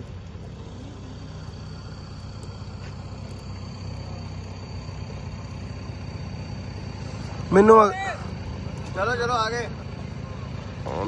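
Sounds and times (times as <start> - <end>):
suv engine droning: 0.0 - 11.0.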